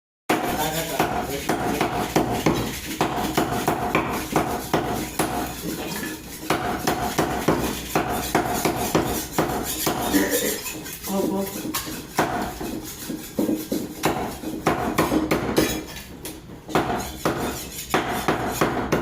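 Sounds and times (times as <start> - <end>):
knife chopping on cutting board: 0.3 - 19.0.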